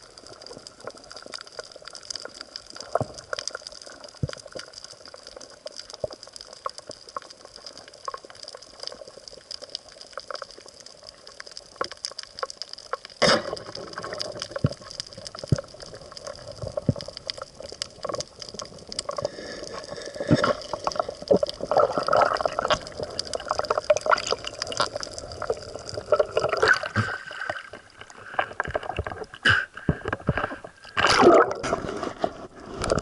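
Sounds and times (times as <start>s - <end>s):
bubbling water: 0.0s - 33.0s
underwater crackle of clicks: 0.0s - 33.0s.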